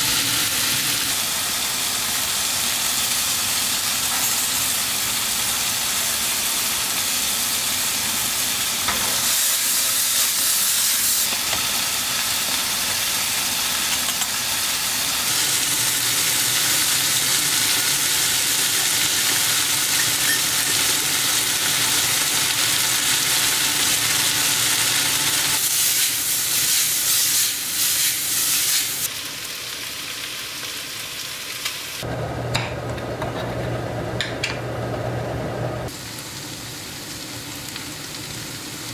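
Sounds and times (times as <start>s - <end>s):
food sizzling in a pan: 0.0s - 32.4s, 35.9s - 38.9s.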